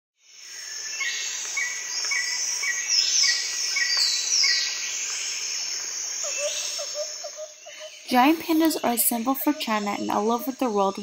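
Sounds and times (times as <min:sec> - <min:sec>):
high buzz of insects: 0:00.2 - 0:11.0
birds chirping: 0:00.5 - 0:11.0.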